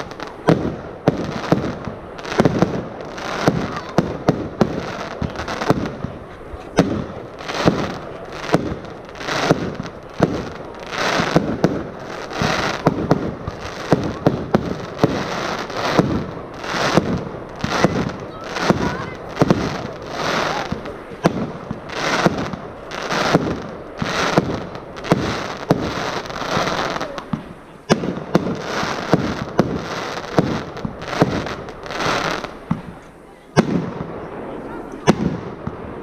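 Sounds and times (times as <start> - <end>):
firework launch reports: 0.0 - 36.0.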